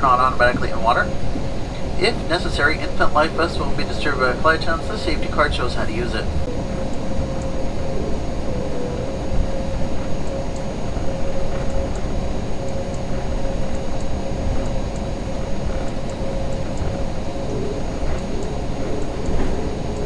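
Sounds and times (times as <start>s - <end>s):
jet engines rumbling with whine: 0.0s - 20.0s.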